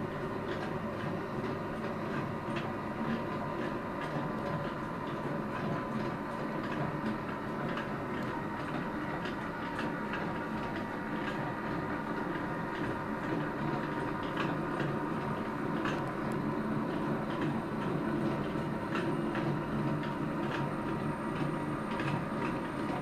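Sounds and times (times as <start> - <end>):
stirrer motor hum: 0.0 - 23.0.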